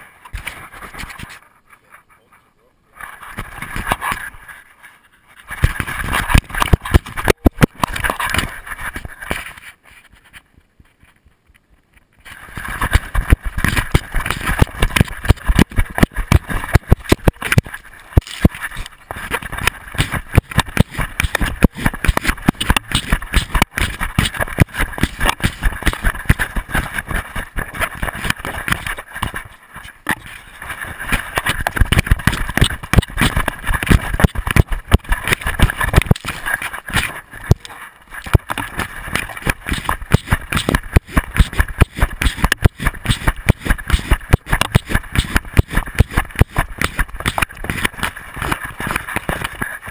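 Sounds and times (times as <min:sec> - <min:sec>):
camera thumping and rattling: 0:00.3 - 0:01.4, 0:03.2 - 0:04.4, 0:05.4 - 0:10.4, 0:11.0 - 0:49.9.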